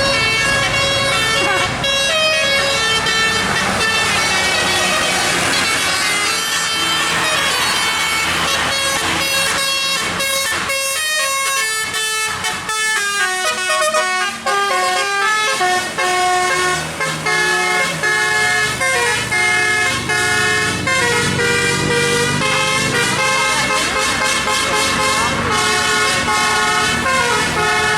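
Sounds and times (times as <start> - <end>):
multi-tone musical air horn: 0.0 - 27.9.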